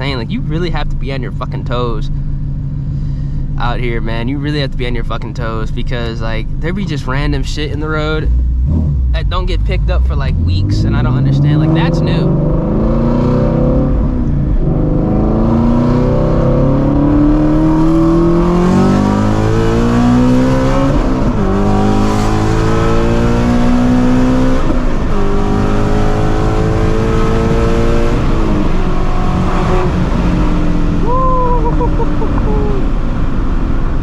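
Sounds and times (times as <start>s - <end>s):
exhaust note with gear shifts: 0.0s - 34.0s
car engine accelerating hard: 6.6s - 34.0s.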